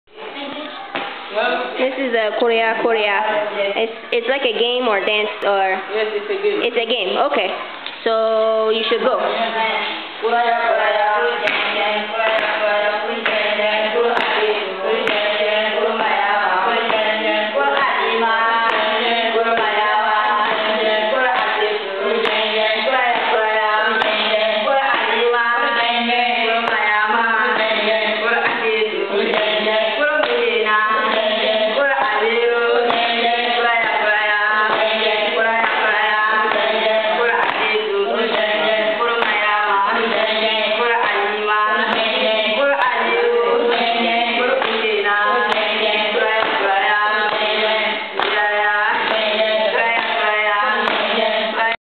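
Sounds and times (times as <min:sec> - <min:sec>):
children singing together: 0:08.8 - 0:51.8.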